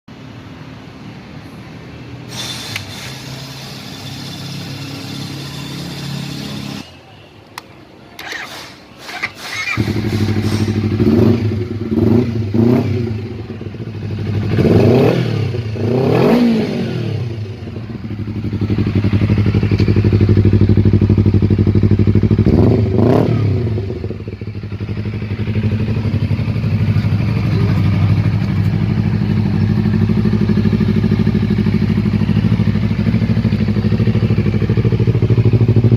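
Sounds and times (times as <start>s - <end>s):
motorcycle engine revving: 2.8s - 6.9s, 8.2s - 35.9s.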